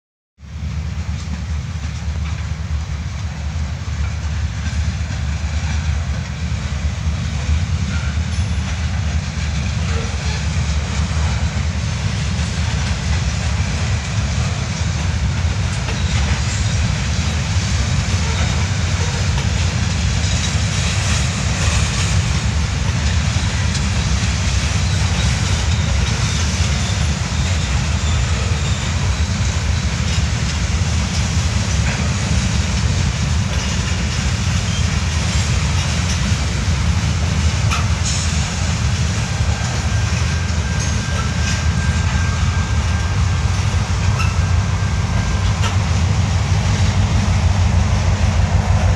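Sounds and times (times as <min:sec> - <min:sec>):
freight train rumbling on rails: 0:00.4 - 0:48.9
wheel and rail noise: 0:00.4 - 0:48.9.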